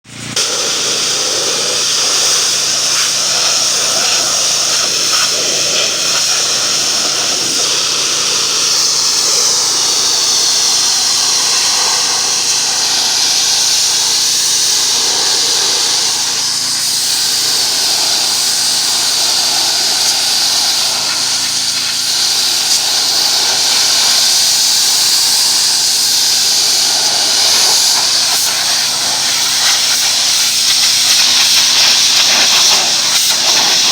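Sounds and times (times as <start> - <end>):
pressure washer jet hissing: 0.1 - 33.9.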